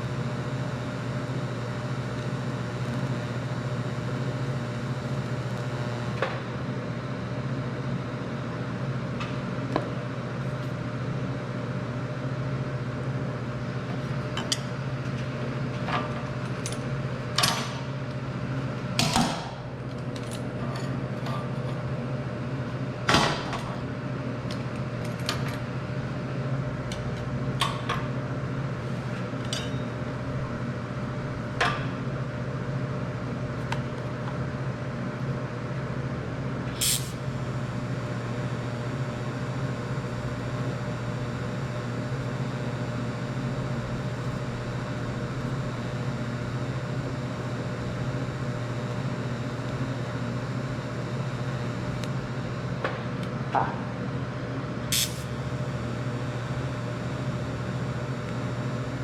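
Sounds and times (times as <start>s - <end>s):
welding machine humming: 0.0s - 59.0s.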